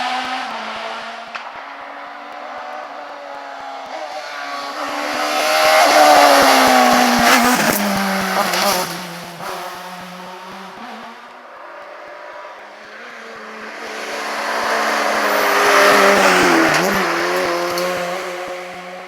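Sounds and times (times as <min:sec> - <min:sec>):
rally car engine passing: 0:00.0 - 0:19.0.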